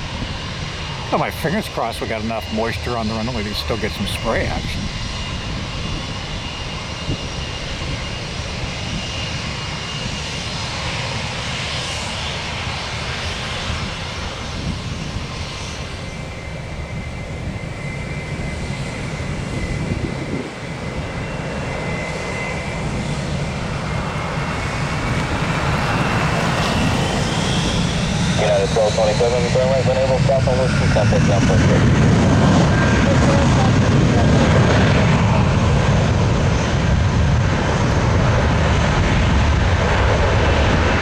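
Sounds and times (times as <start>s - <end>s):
jet engines roaring with whine: 0.0s - 41.0s.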